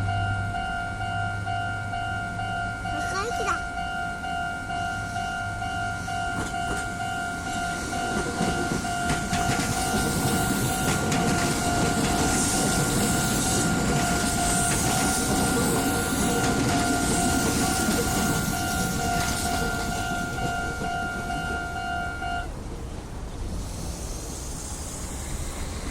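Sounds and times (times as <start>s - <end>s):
level crossing warning bell: 0.0s - 22.5s
electric train passing: 0.0s - 25.9s.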